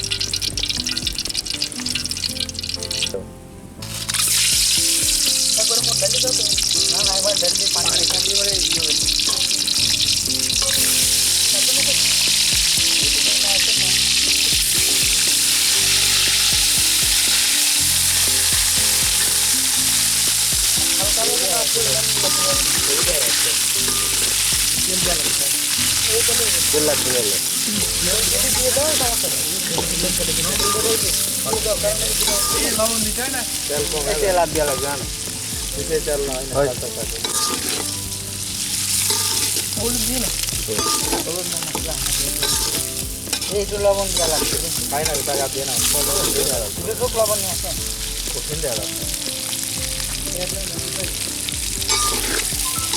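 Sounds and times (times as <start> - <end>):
food sizzling in hot oil: 0.0 - 52.9.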